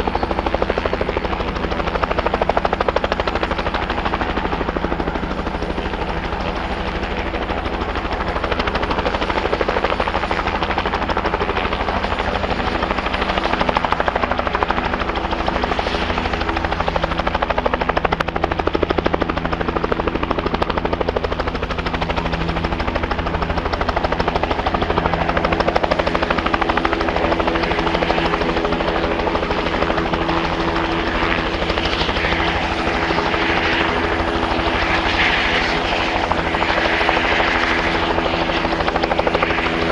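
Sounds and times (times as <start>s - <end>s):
helicopter engine tone: 0.0s - 39.9s
helicopter rotor chop: 0.0s - 39.9s.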